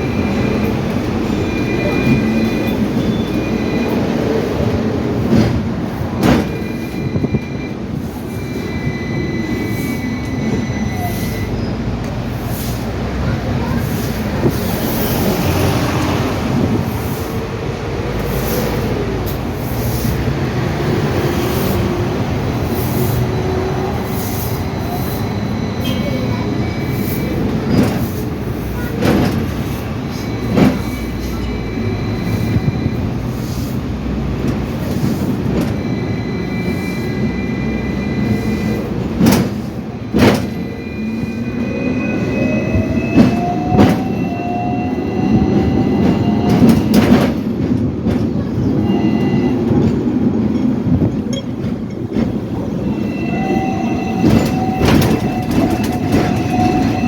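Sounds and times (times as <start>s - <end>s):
tram rumbling on rails: 0.0s - 57.0s.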